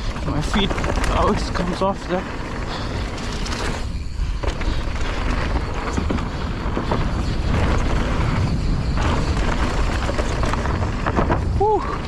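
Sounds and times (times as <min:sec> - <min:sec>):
bike rattling over rough trail: 0:00.0 - 0:12.0
wind buffeting microphone: 0:00.0 - 0:12.0.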